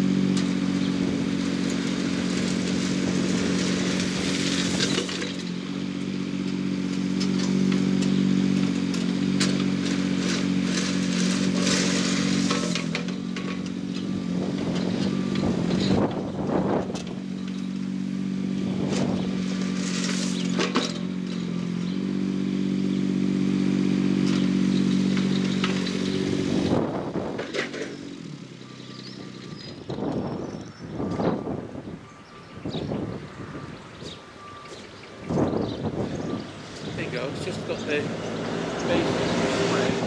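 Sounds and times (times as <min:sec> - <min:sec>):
diesel engine running: 0:00.0 - 0:40.0
gravel scraping and rattling: 0:00.0 - 0:40.0.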